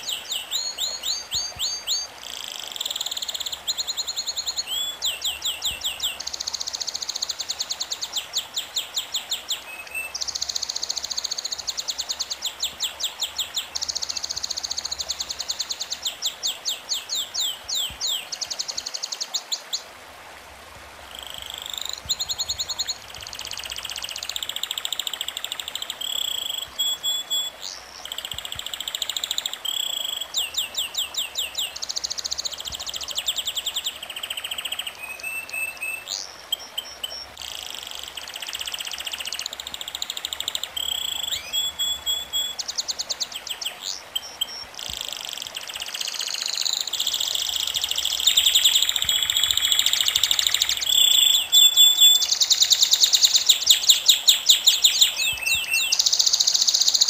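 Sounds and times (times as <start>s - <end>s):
songbird singing trills: 0.0s - 19.8s, 21.1s - 57.0s.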